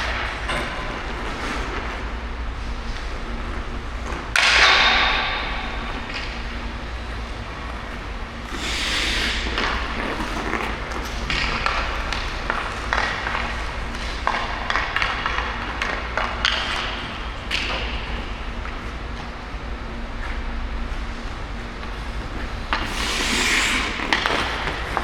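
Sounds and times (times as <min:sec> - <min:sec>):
skate blades scraping on ice: 0:00.1 - 0:18.8, 0:21.8 - 0:25.0.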